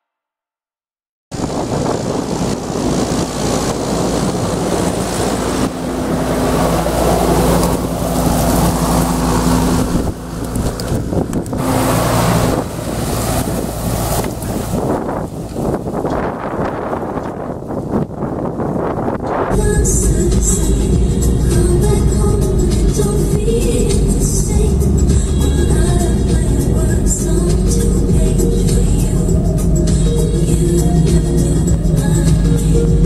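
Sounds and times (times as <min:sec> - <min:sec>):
wind noise on microphone: 0:01.3 - 0:33.0
tractor diesel engine running: 0:01.4 - 0:33.0.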